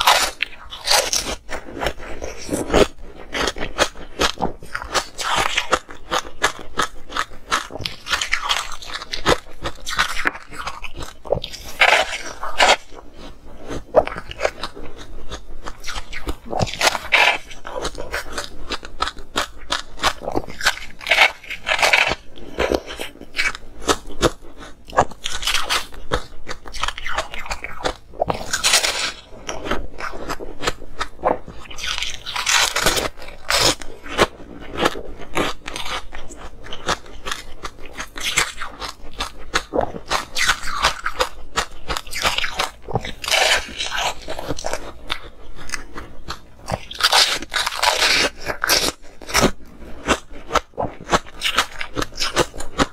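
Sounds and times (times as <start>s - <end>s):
ice crunching between teeth: 0.0s - 52.9s.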